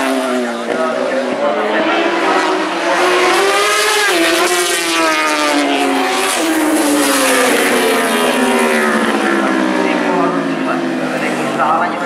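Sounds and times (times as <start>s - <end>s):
motorcycles passing at racing revs: 0.0s - 12.0s.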